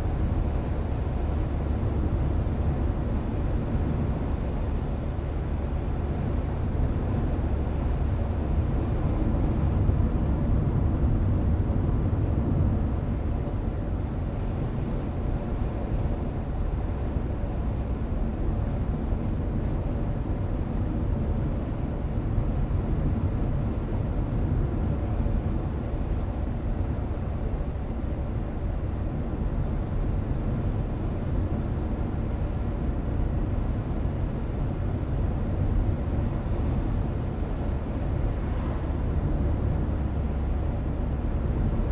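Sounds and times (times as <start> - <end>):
car road noise from inside: 6.6 - 41.9.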